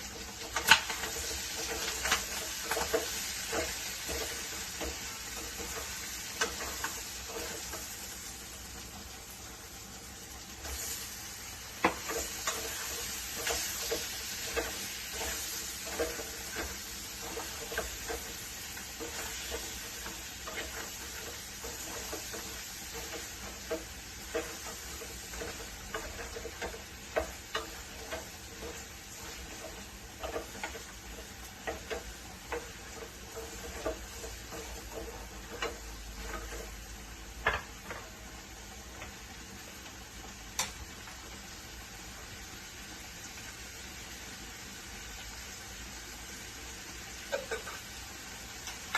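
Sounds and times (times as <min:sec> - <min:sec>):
spatula scraping a pan: 0:00.0 - 0:09.8, 0:10.4 - 0:39.8, 0:47.1 - 0:48.9
food sizzling in a pan: 0:00.0 - 0:48.9.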